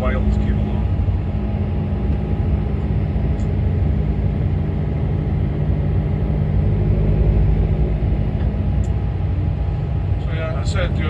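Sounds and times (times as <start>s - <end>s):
vehicle engine drone: 0.0s - 11.0s.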